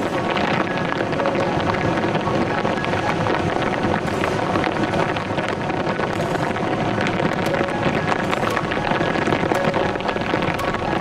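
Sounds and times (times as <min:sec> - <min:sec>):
heavy rain drumming on car roof: 0:00.0 - 0:11.0.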